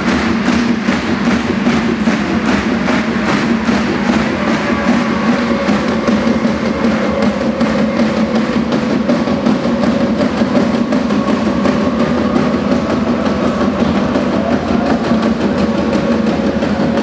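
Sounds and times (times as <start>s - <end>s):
music with drums and percussion: 0.0s - 17.0s.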